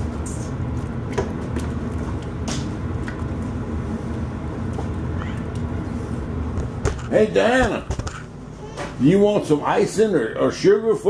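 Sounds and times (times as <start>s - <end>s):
appliance hum and rumble: 0.0s - 11.0s.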